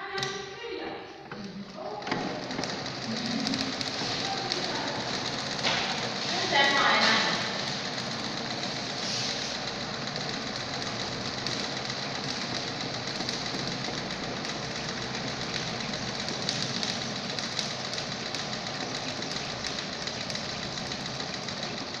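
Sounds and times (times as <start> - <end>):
sewing machine clattering: 1.4 - 22.0.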